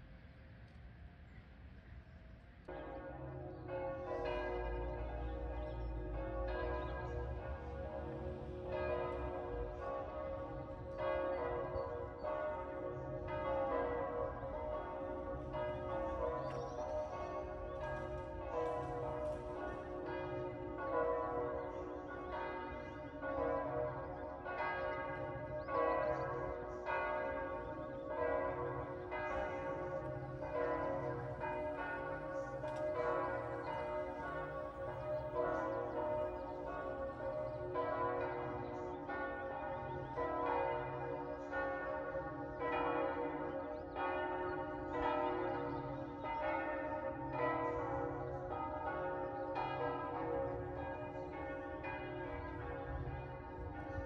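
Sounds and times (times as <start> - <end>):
church bells ringing: 2.6 - 54.0.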